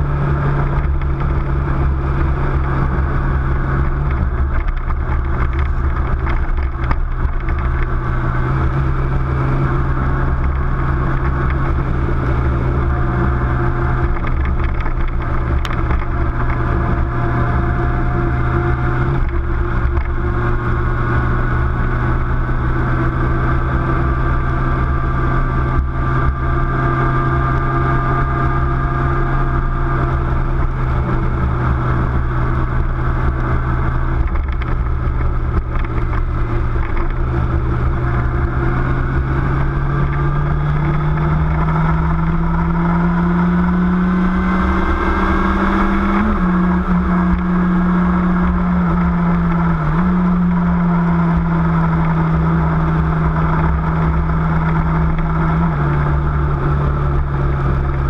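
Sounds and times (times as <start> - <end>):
car engine droning: 0.0 - 58.0
low road rumble: 0.0 - 58.0.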